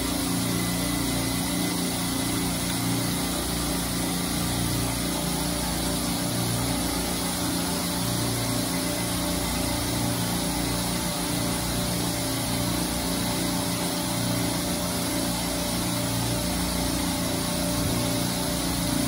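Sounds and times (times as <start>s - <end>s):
machinery droning with hiss: 0.0s - 19.0s.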